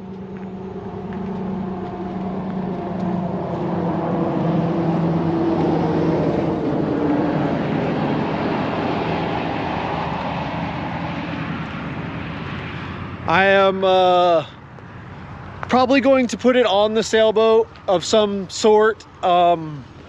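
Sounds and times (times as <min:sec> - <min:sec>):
vehicle passing by: 0:00.0 - 0:18.3.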